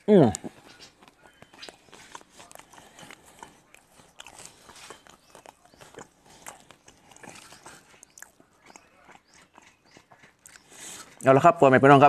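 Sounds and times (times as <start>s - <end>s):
close chewing with wet smacks: 0.0s - 11.8s.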